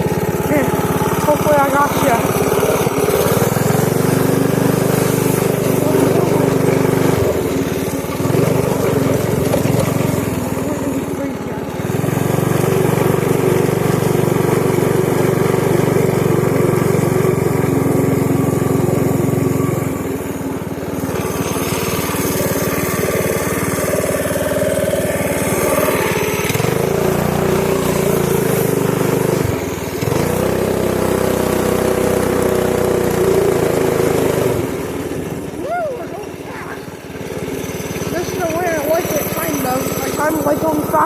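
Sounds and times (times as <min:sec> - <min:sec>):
pit bike engine revving: 0:00.0 - 0:41.0.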